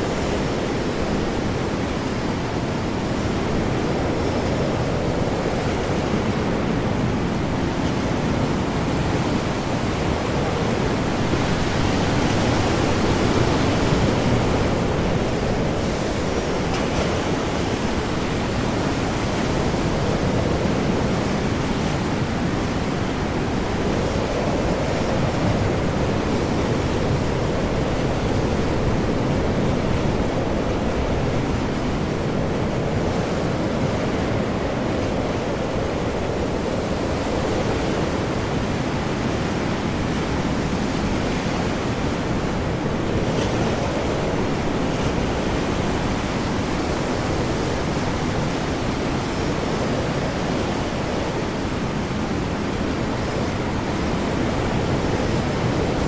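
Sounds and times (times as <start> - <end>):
heavy waves surging: 0.0 - 56.0
high wind: 0.0 - 56.0.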